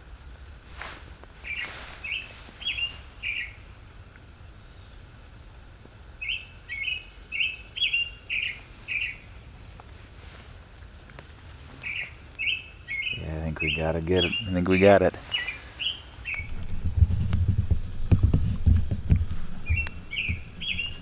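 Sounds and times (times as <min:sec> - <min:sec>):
songbird chirping: 0:00.8 - 0:09.9, 0:10.9 - 0:21.0.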